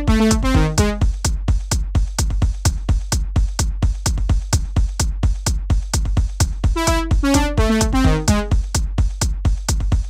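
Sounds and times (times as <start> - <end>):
drum machine beat: 0.0 - 10.0.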